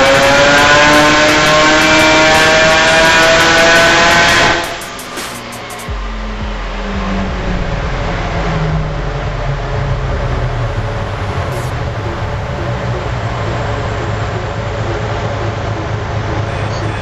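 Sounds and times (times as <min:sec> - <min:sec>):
rotary engine running: 0:00.0 - 0:17.0.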